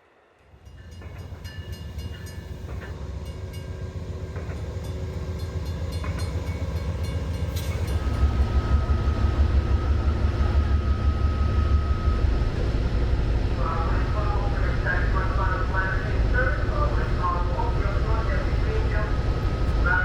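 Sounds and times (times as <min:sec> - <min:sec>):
train passing rumble: 0:00.0 - 0:20.0
thin steady whine: 0:02.8 - 0:20.0.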